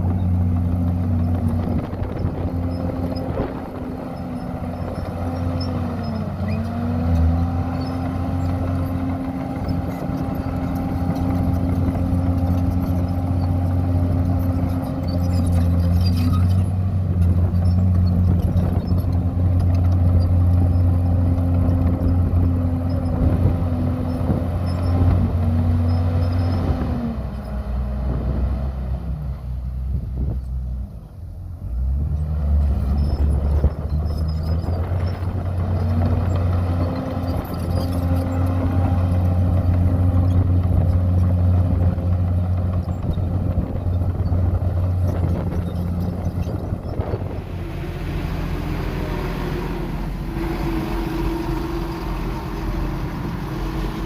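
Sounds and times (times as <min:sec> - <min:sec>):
heavy diesel engine running: 0:00.0 - 0:28.8, 0:31.0 - 0:54.0.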